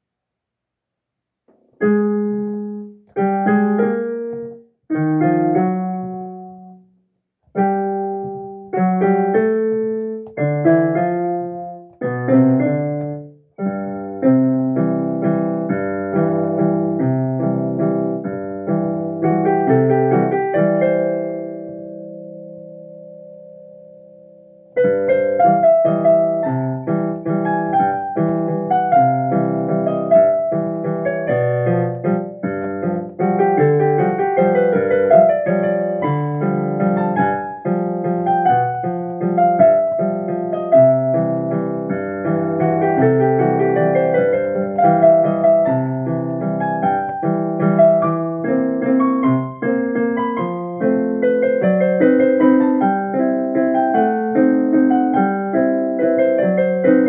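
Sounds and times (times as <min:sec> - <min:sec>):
lively piano piece: 0:01.5 - 0:57.0.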